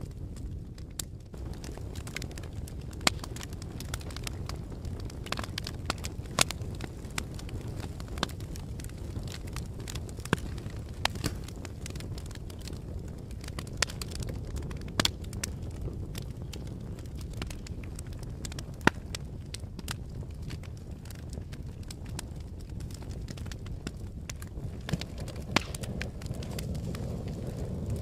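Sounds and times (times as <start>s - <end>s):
fire crackling: 0.0s - 28.0s
fire popping and snapping: 0.0s - 28.0s.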